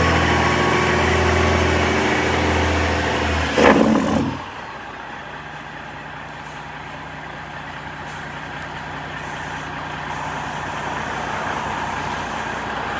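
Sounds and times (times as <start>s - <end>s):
truck diesel engine running: 0.0s - 12.9s.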